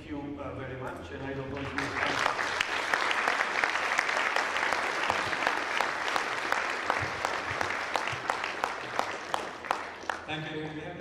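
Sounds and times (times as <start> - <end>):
audience applauding: 1.5 - 10.4.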